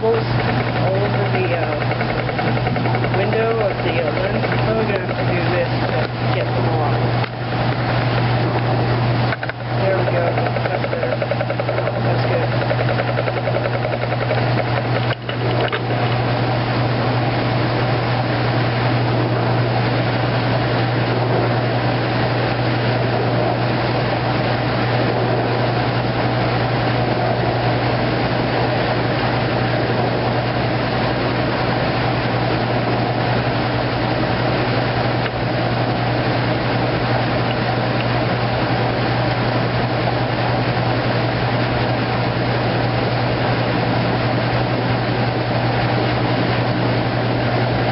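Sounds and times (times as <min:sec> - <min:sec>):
washing machine running: 0:00.0 - 0:47.9.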